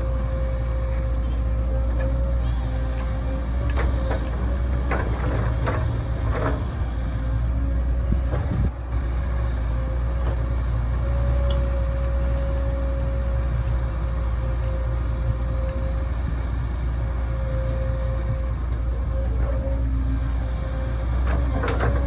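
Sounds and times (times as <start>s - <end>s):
diesel engine rumbling with whine: 0.0s - 22.0s.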